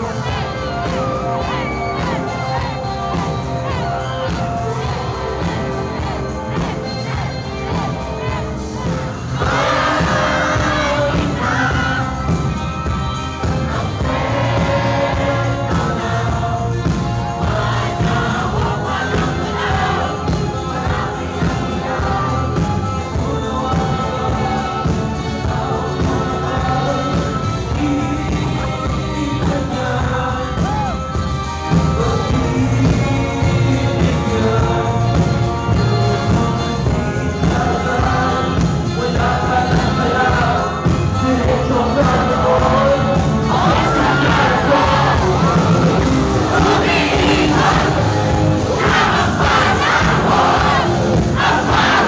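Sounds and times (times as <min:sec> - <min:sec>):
live rock band playing: 0:00.0 - 0:52.0
person singing into microphone: 0:00.0 - 0:52.0.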